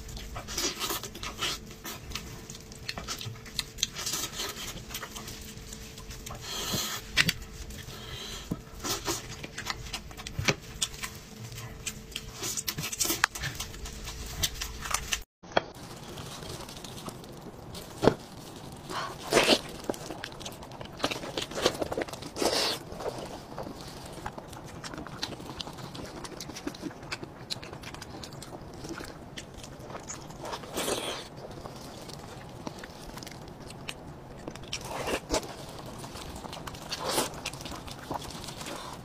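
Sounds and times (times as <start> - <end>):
wet chewing and sucking: 0.0 - 39.0.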